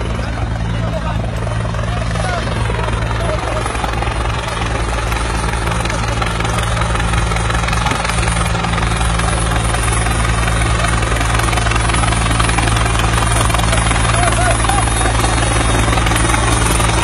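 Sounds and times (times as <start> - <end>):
helicopter engine and rotor hum: 0.0 - 17.0.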